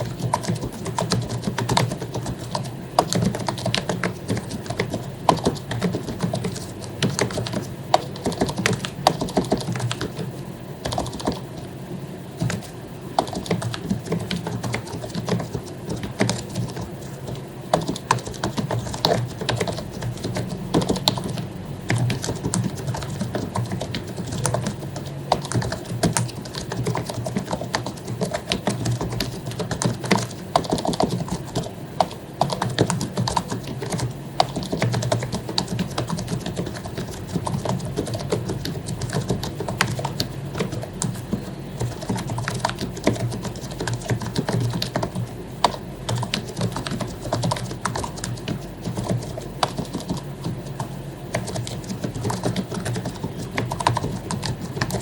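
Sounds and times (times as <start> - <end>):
typing on keyboard: 0.0 - 55.0.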